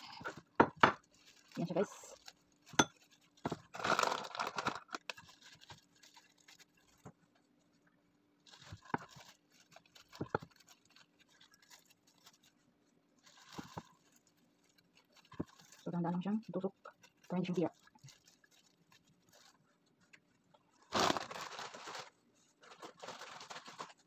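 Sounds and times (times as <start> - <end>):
plastic gloves crinkling: 0.0 - 24.0.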